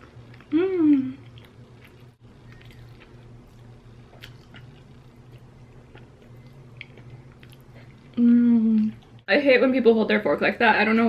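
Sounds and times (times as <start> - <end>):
faint chewing: 0.0 - 9.3.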